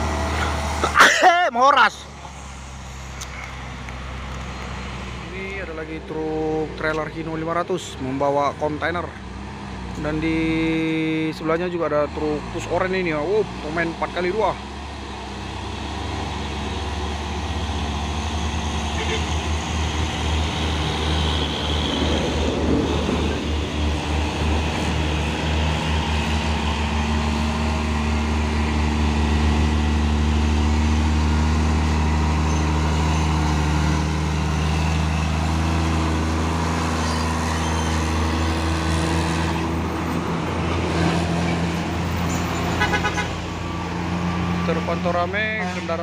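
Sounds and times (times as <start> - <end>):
truck diesel engine passing: 0.0 - 46.0.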